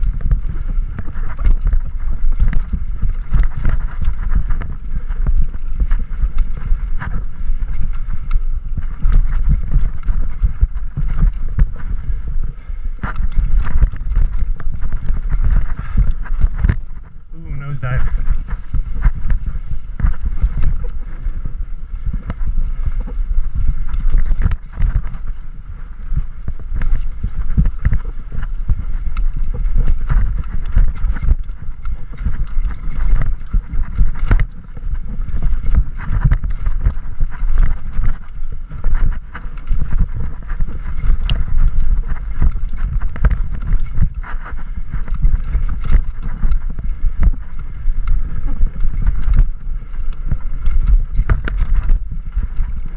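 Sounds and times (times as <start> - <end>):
bike rattling and knocking: 0.0 - 52.9
wind rumble on microphone: 0.0 - 52.9.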